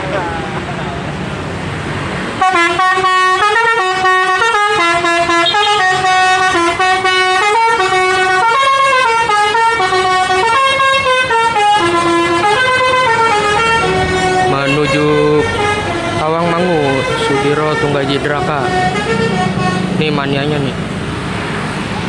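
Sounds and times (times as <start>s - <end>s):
multi-tone bus horn melody: 2.3s - 20.7s.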